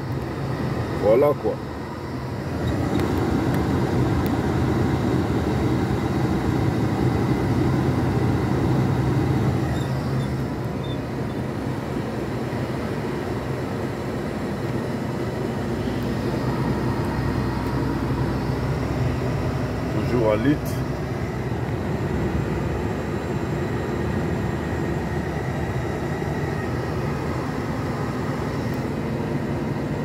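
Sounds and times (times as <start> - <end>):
lorry engine drone: 0.0 - 30.0.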